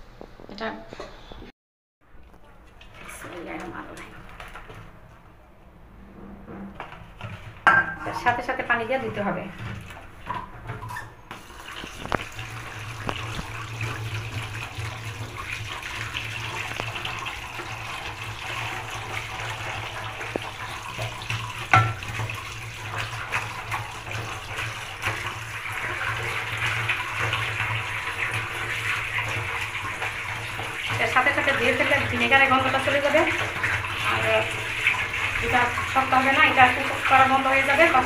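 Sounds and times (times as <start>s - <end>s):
tap water splashing: 2.2s - 4.9s, 6.5s - 38.0s.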